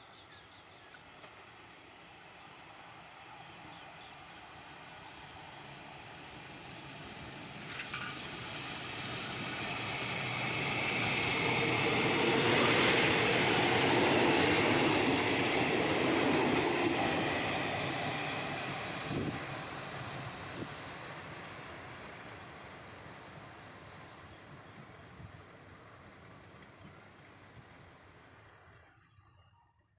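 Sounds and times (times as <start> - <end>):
train wheels running on rails: 3.0 - 28.6.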